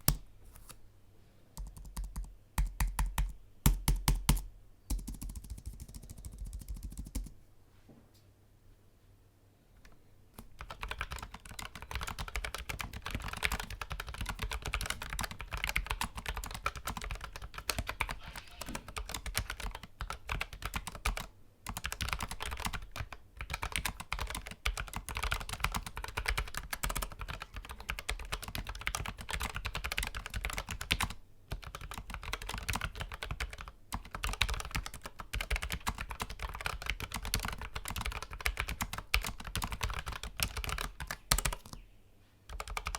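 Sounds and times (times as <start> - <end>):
mechanical keyboard typing: 1.6 - 7.3, 10.4 - 41.8, 42.5 - 42.9
light typing on keyboard: 1.6 - 7.4, 9.8 - 41.8, 42.5 - 42.9.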